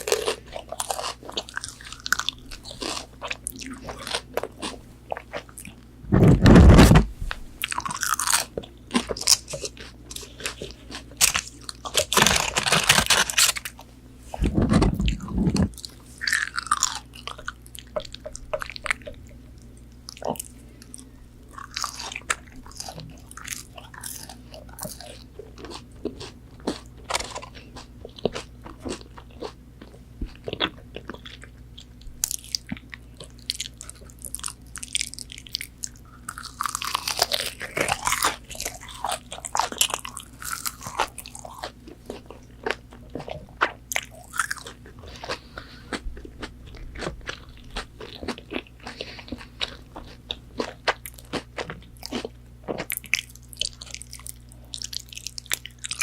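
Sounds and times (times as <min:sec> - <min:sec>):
crunching and chewing food: 0:00.0 - 0:56.0.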